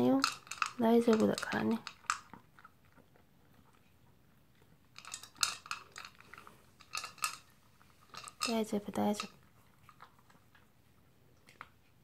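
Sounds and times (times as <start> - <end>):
dog crunching food: 0.0 - 12.0.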